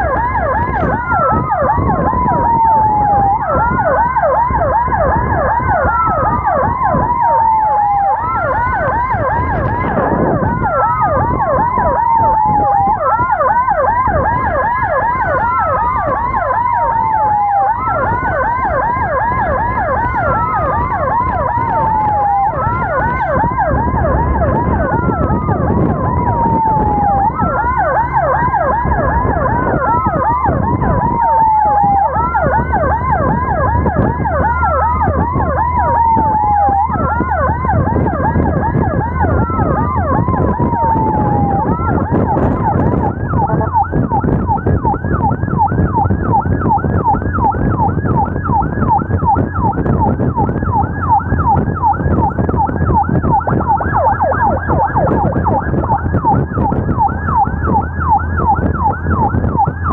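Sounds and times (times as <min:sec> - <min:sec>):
road traffic rumble: 0:00.0 - 0:59.9
siren wailing: 0:00.0 - 0:59.9
siren yelping: 0:00.0 - 0:59.9.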